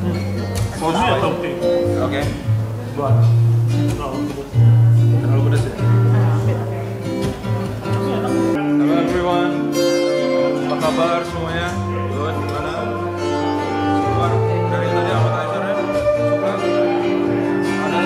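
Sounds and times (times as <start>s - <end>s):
guitar music: 0.0s - 18.0s.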